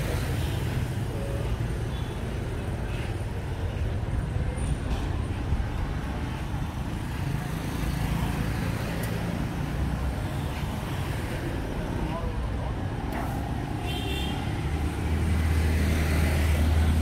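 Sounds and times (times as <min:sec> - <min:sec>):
motorbikes and cars driving past: 0:00.0 - 0:17.0.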